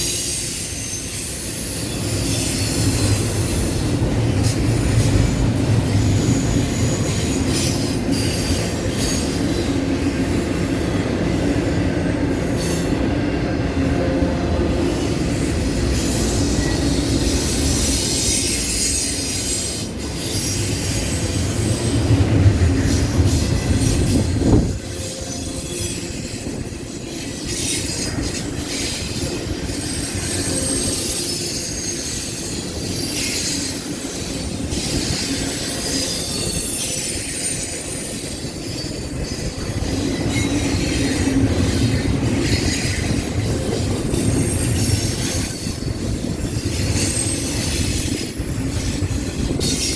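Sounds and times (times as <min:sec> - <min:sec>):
steel wheels squealing on rails: 0:00.0 - 0:49.9.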